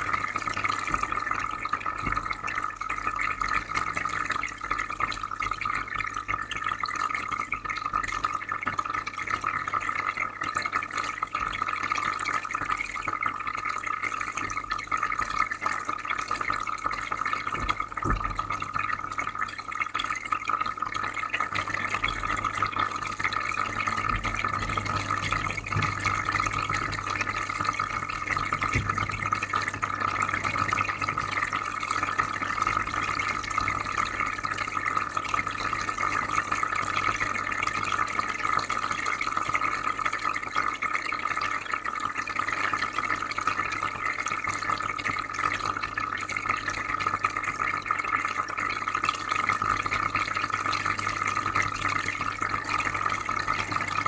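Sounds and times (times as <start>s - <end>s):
bubbling trickling water: 0.0s - 54.0s.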